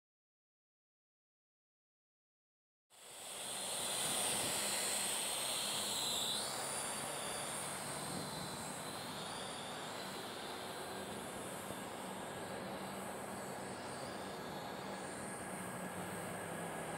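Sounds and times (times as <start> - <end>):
drone propellers whining: 3.0 - 16.9.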